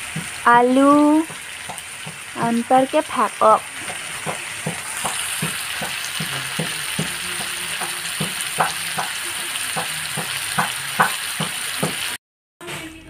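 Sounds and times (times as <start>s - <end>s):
food sizzling in a wok: 0.0s - 12.9s.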